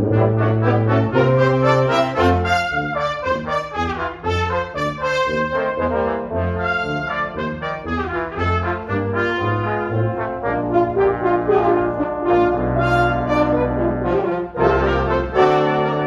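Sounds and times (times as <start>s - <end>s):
brass ensemble playing: 0.0s - 16.0s.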